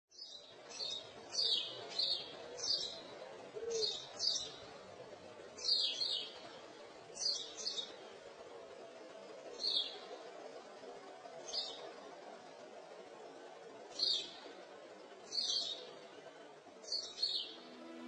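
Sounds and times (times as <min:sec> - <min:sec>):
birds chirping: 0:00.1 - 0:18.0
faint steady hum: 0:00.1 - 0:18.0.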